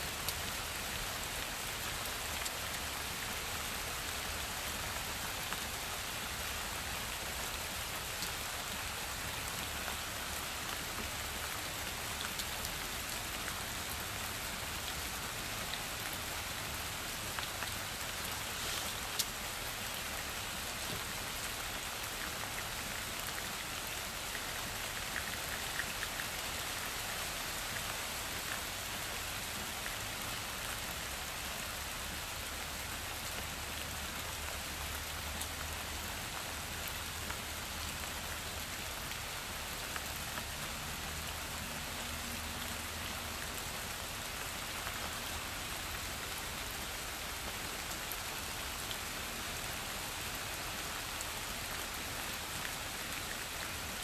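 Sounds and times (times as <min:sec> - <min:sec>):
rain on leafy trees: 0:00.0 - 0:54.0.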